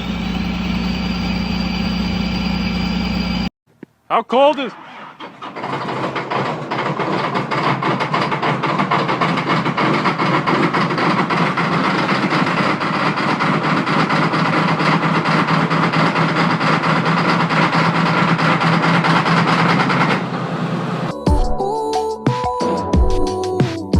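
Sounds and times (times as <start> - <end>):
diesel tractor engine clatter: 0.0 - 3.5, 4.5 - 20.5.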